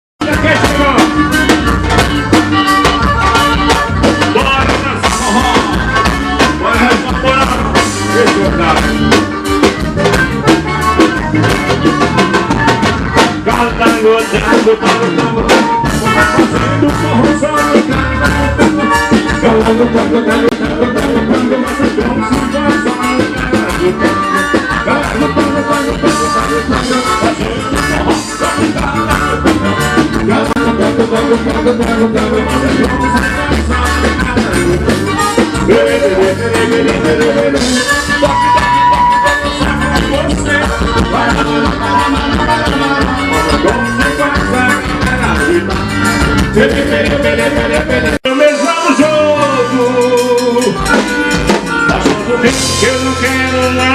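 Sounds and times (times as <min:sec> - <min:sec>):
band music: 0:00.2 - 0:53.9
drum kit beat: 0:00.2 - 0:53.9.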